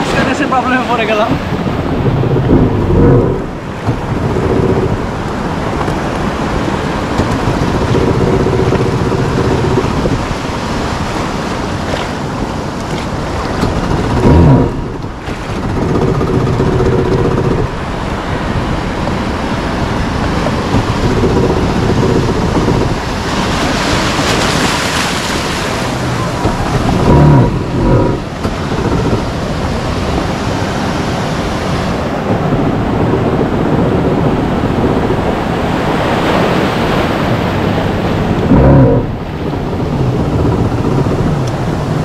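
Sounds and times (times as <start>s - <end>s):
watercraft engine running: 0.0s - 42.0s
waves washing: 0.0s - 42.0s
wind noise on microphone: 0.0s - 42.0s.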